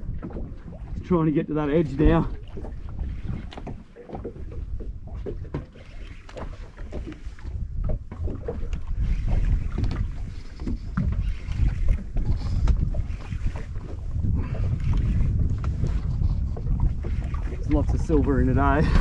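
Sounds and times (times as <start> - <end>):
water against boat hull: 0.0 - 19.0
wind buffeting microphone: 0.0 - 19.0.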